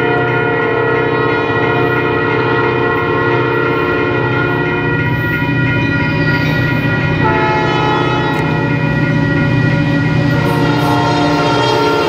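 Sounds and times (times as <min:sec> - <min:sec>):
locomotive air horn: 0:00.0 - 0:05.8, 0:06.6 - 0:08.8, 0:09.4 - 0:12.0
diesel engines rumbling: 0:00.0 - 0:12.0.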